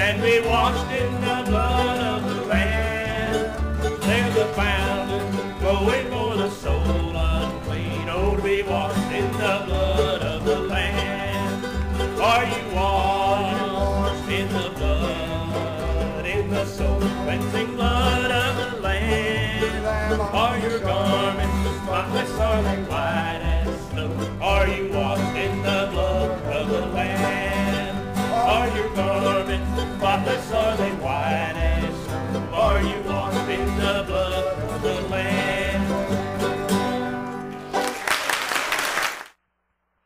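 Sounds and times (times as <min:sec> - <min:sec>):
upright bass notes: 0:00.0 - 0:37.8
bluegrass string band: 0:00.0 - 0:38.4.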